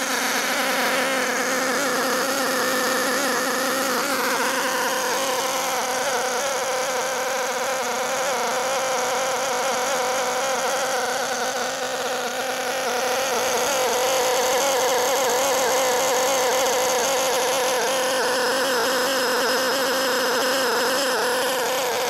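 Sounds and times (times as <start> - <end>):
nitro engine running: 0.0 - 22.0.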